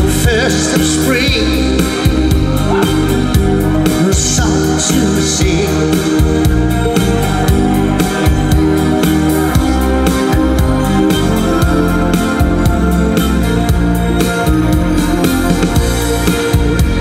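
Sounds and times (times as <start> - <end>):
electronic keyboards playing chords: 0.0 - 17.0
steady drum beat: 0.0 - 17.0.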